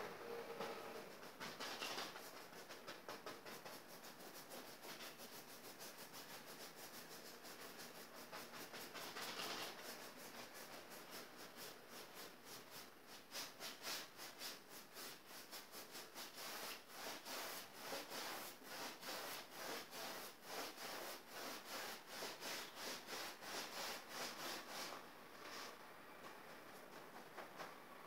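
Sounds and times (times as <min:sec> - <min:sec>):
paintbrush rubbing on canvas: 0:01.2 - 0:25.8.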